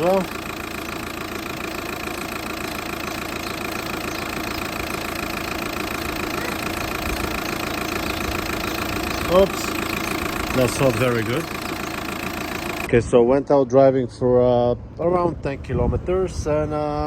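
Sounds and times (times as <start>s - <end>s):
car engine idling: 0.0s - 12.9s, 14.9s - 17.0s.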